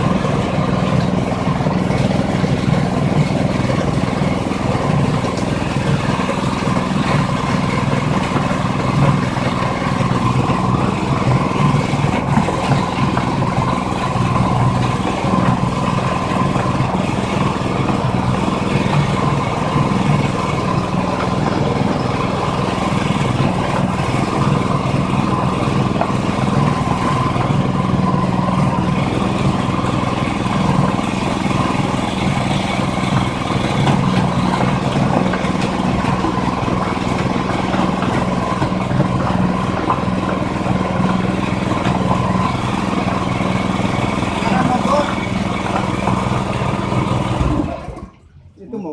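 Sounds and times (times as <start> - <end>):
feed blender machine humming: 0.0 - 48.9.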